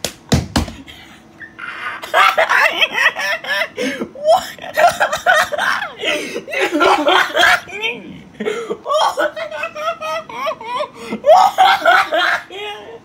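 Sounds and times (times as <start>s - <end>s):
loud laughter: 1.4s - 13.0s.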